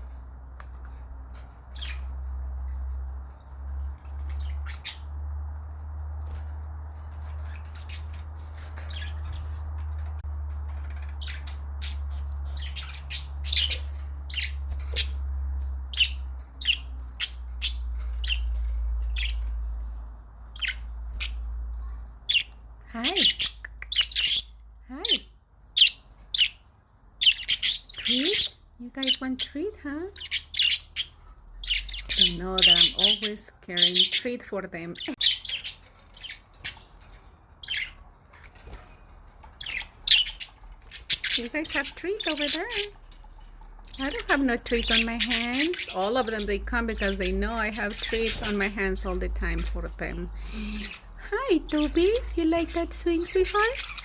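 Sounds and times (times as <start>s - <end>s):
budgerigars chirping and squawking: 0.0s - 54.0s.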